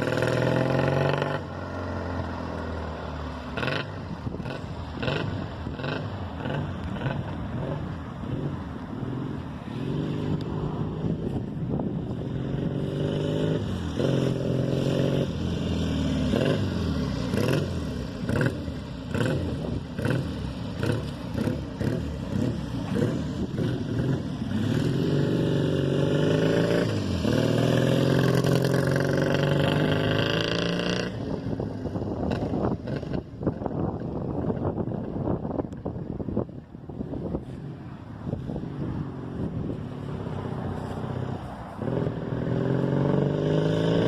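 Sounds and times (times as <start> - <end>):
motorcycle engine revving: 0.0 - 35.2, 38.3 - 44.0.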